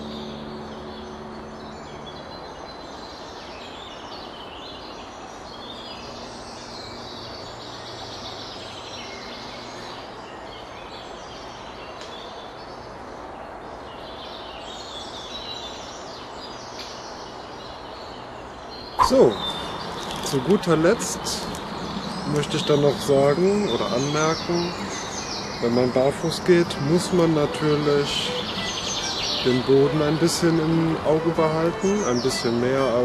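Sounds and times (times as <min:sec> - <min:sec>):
background hiss: 0:00.0 - 0:33.0
songbirds chirping and singing: 0:00.0 - 0:33.0.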